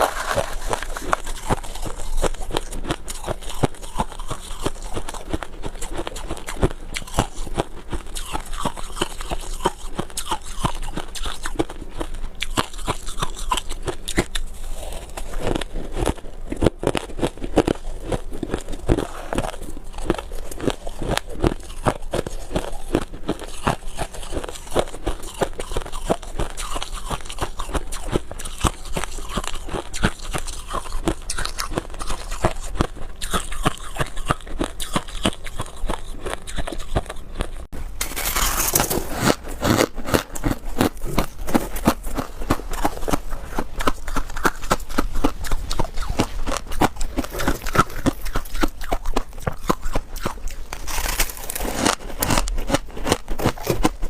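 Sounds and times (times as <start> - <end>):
frost being chewed crunching: 0.0 - 54.0.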